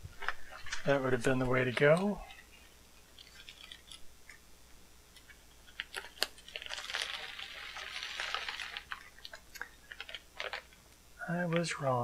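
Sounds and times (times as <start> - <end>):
plastic wrap crinkling: 0.1 - 4.5, 5.2 - 10.9.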